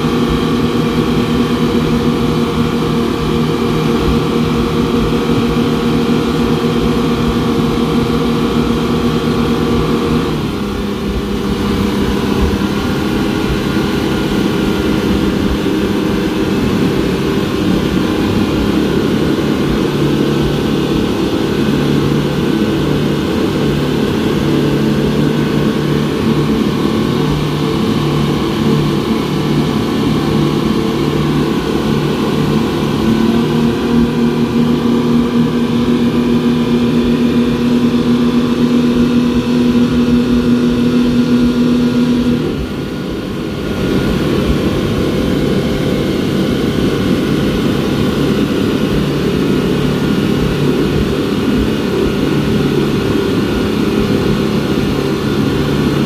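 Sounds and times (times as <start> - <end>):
outboard engines running at speed: 0.0 - 56.0.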